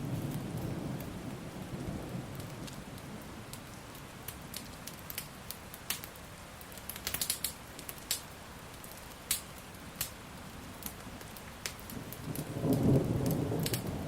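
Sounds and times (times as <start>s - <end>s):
rain hissing: 0.0s - 14.0s
wood fire crackling: 0.0s - 14.0s.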